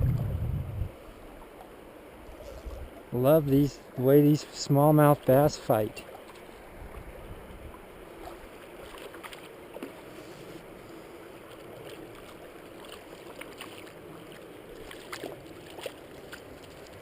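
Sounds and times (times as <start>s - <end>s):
river water running: 0.0s - 17.0s.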